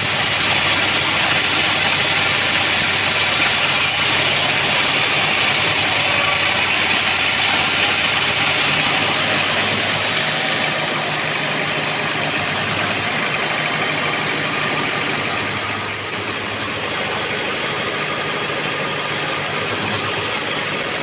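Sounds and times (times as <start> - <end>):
sawmill engine hum: 0.0 - 21.0.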